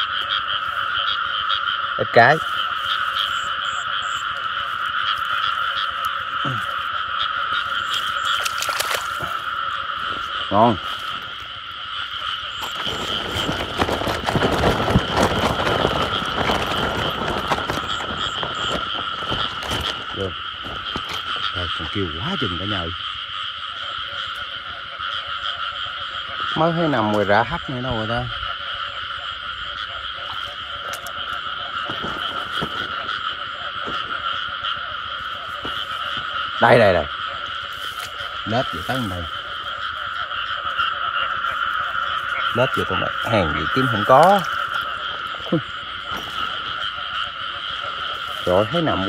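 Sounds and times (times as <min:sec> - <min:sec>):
frogs calling: 0:00.0 - 0:49.0
rustling through water and vegetation: 0:00.0 - 0:49.0.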